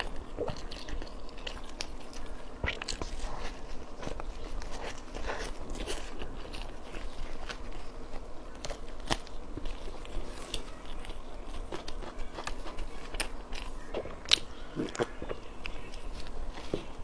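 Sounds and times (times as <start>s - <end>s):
person chewing a bun: 0.0s - 17.0s.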